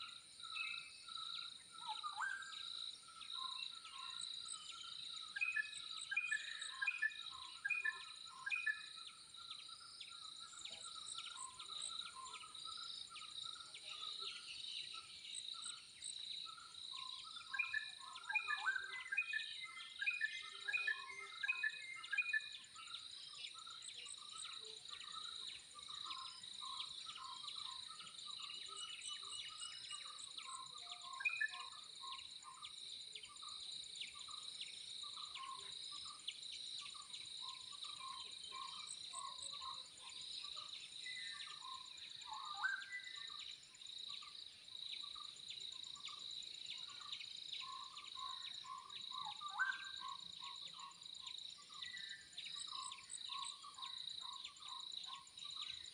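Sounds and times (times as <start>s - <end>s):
bird calls: 0.0s - 55.9s.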